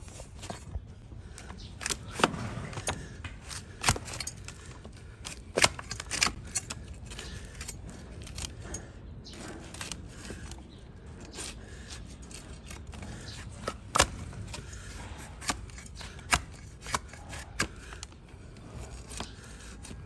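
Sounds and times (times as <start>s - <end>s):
blade cutting hoof: 0.2s - 20.0s.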